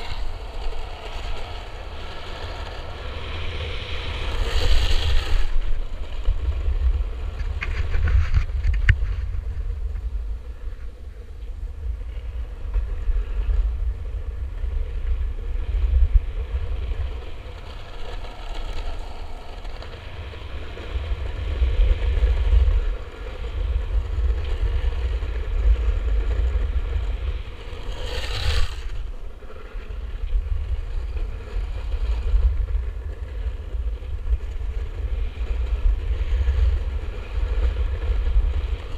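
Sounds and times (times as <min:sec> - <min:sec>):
wheels rolling on asphalt: 0:00.0 - 0:38.9
wind buffeting microphone: 0:00.0 - 0:38.9.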